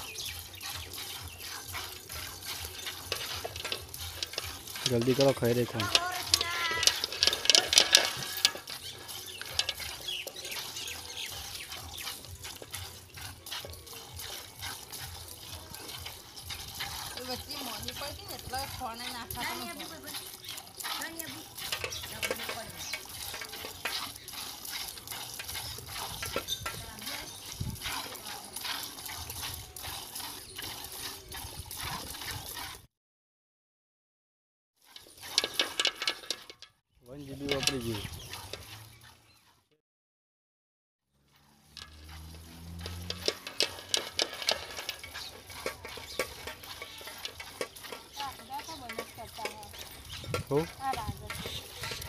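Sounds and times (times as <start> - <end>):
milk squirting into plastic bucket: 0.0 - 32.8, 34.8 - 36.4, 37.2 - 39.1, 41.6 - 52.0.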